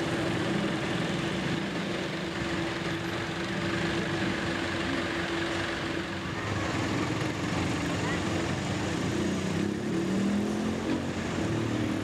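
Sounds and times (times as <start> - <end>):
car engines in slow traffic: 0.0 - 12.0.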